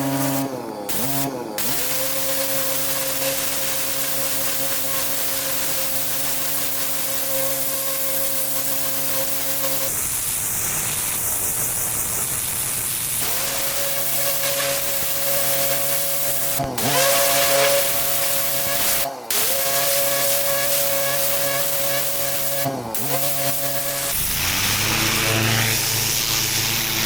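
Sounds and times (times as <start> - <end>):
pressure washer engine running: 0.0 - 27.0
high-pressure water spray hiss: 0.2 - 27.0.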